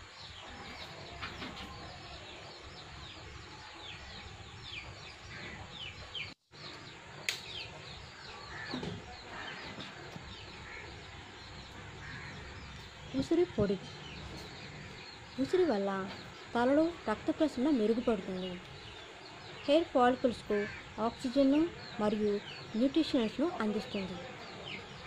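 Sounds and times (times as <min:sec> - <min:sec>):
birds chirping: 0:00.0 - 0:25.0
faint outdoor background noise: 0:00.0 - 0:25.0.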